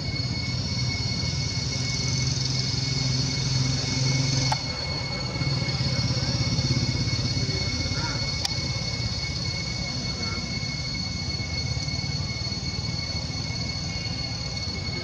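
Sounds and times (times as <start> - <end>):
steady high-pitched tones: 0.0 - 15.0
vehicle engine humming: 0.0 - 15.0.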